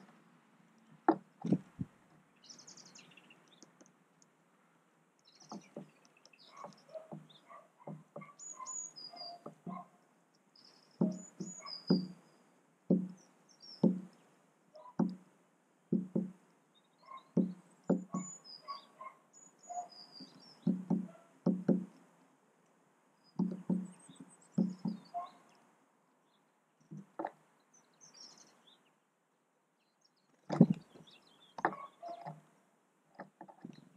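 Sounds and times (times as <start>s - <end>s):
small birds chirping: 0.7s - 4.3s, 5.1s - 15.2s, 15.9s - 33.9s.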